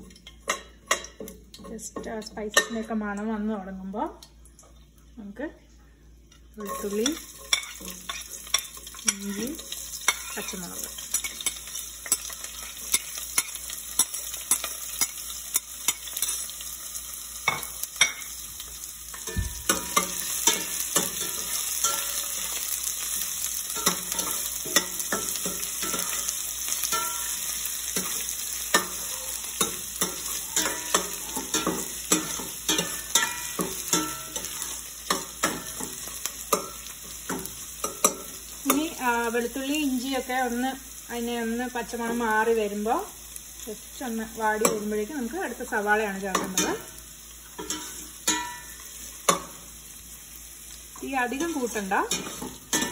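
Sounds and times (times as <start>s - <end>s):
food sizzling in hot oil: 0.0s - 3.9s, 6.3s - 52.9s.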